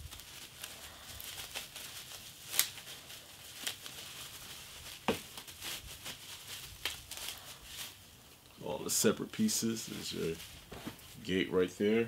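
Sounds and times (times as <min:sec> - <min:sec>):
sharp bubble wrap crackles: 0:00.0 - 0:11.6
bubble wrap crinkling: 0:00.0 - 0:12.0.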